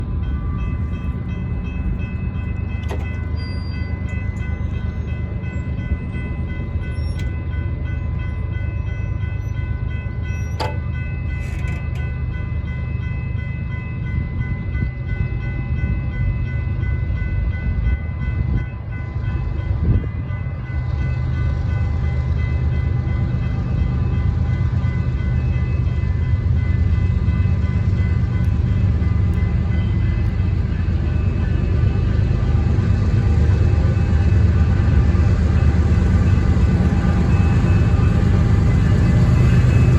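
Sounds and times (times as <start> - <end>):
freight locomotives rumbling past: 0.0 - 39.9.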